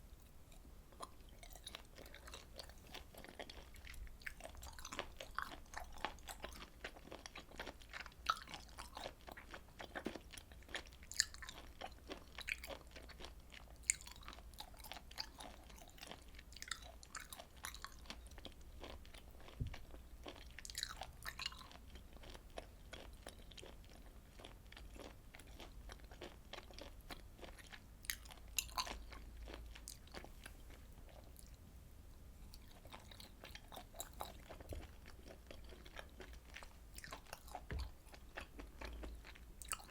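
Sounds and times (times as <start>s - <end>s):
wet chewing mouth sounds: 0.5s - 31.6s, 32.5s - 39.9s.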